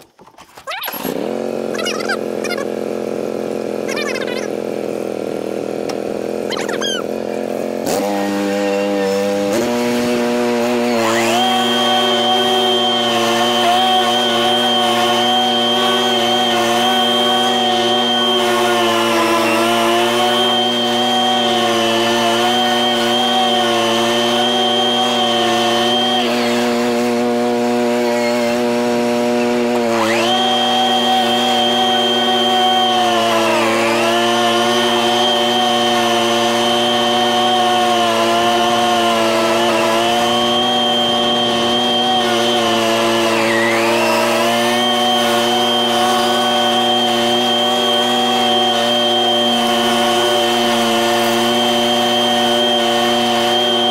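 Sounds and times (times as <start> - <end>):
two-stroke engine whining: 0.0 - 53.9.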